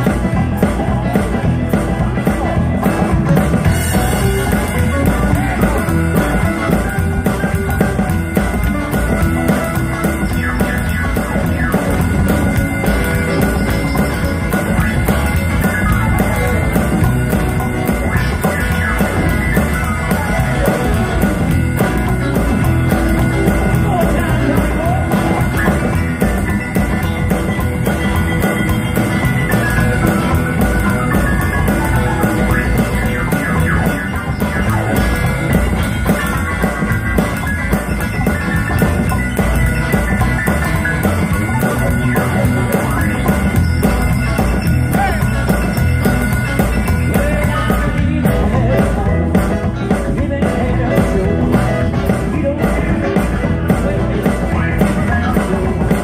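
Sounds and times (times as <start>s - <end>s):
rock and roll band playing: 0.0s - 56.0s.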